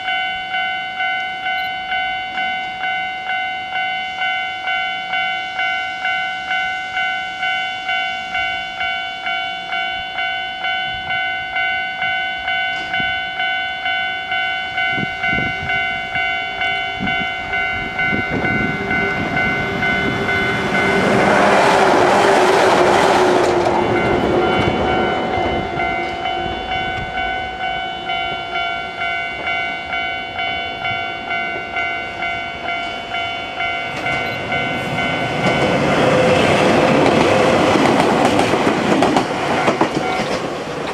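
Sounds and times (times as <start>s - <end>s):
level crossing bell clanging: 0.0s - 40.9s
train passing: 0.0s - 40.9s.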